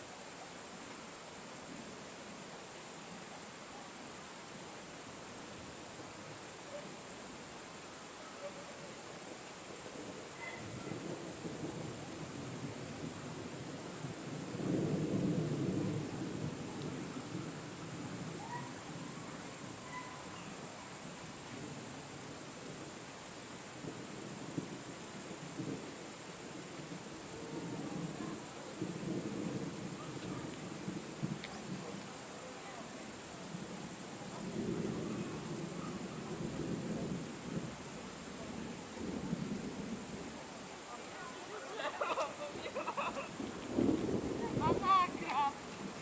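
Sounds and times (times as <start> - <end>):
crickets trilling: 0.0 - 46.0.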